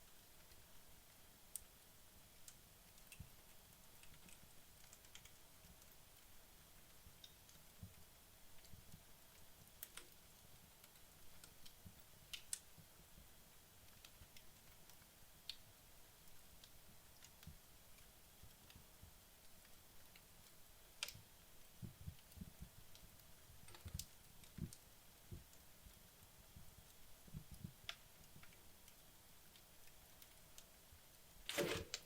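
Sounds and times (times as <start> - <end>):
faint fire hiss: 0.0 - 32.0
fireplace crackles and pops: 0.0 - 32.0.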